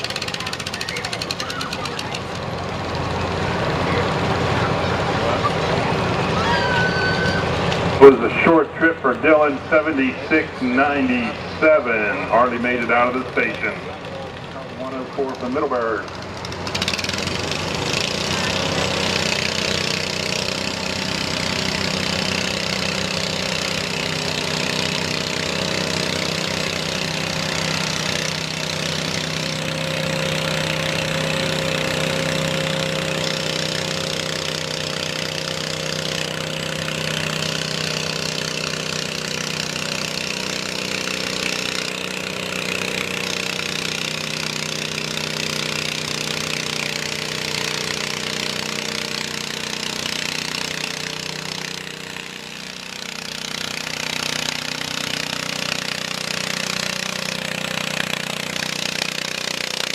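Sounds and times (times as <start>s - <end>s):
garden tractor engine running: 0.0s - 6.6s, 7.2s - 59.9s.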